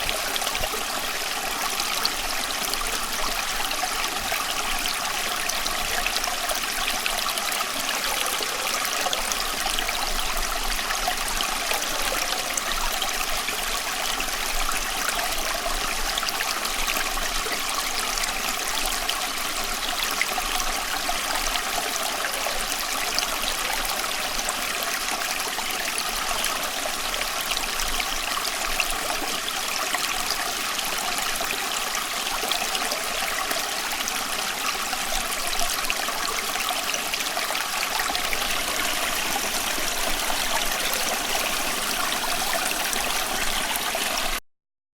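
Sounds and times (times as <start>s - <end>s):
stream flowing over stones: 0.0s - 44.4s.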